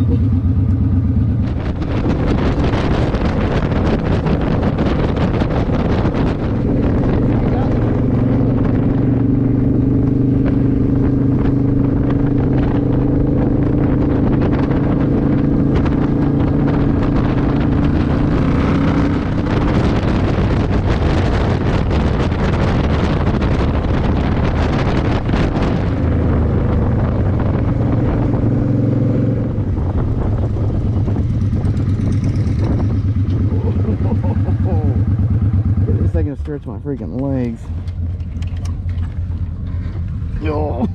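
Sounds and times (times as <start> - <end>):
motorcycle engine running: 0.0 - 40.9
wind rushing past microphone: 0.0 - 40.9.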